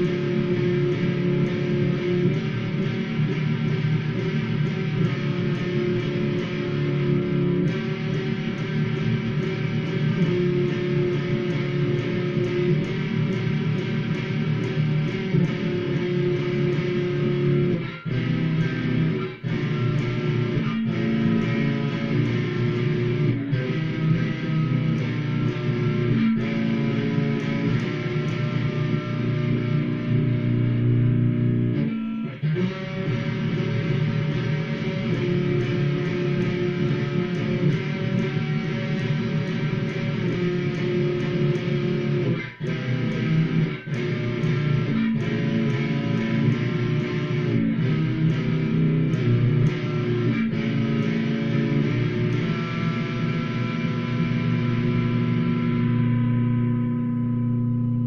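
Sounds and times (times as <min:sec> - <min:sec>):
electric guitar chords and notes: 0:00.0 - 0:58.0.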